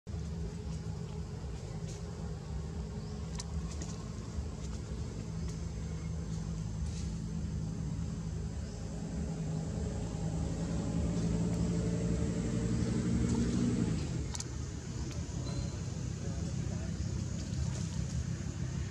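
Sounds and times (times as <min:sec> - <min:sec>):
vehicle engine running: 0:00.1 - 0:18.9.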